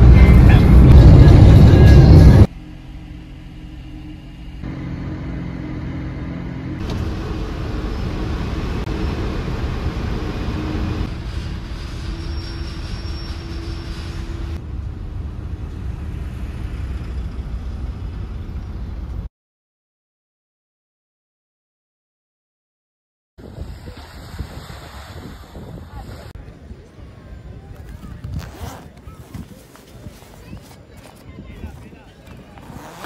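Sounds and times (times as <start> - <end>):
vehicle engine and road rumble: 0.0 - 19.3, 23.4 - 33.0.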